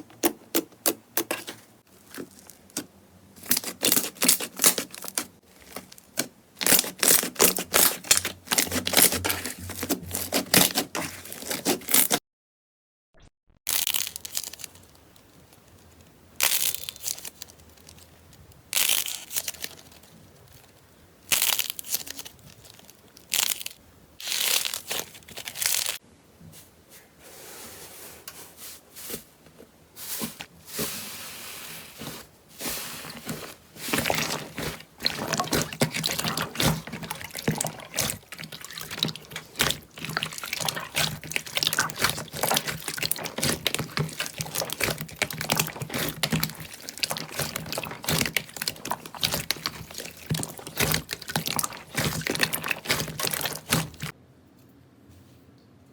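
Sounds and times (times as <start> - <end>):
slime squishing and crackling: 0.0 - 12.2, 13.7 - 15.8, 16.4 - 26.0, 31.9 - 54.2.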